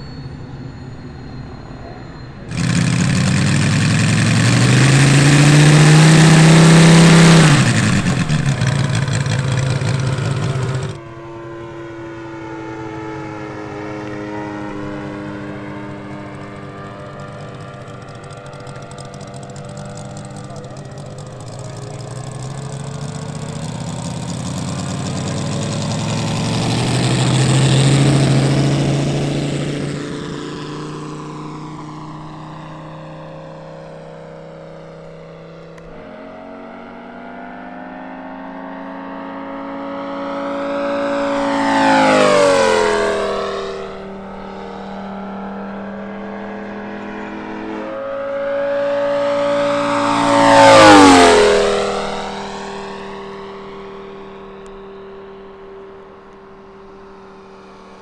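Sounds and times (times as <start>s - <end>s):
model airplane engine flying by: 0.0s - 58.0s.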